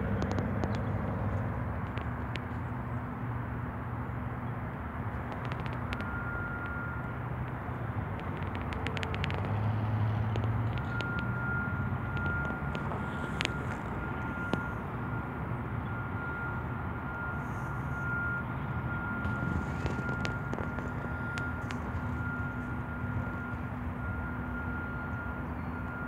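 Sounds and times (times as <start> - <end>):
low engine hum: 0.0 - 26.0
traffic rumble: 0.0 - 26.0.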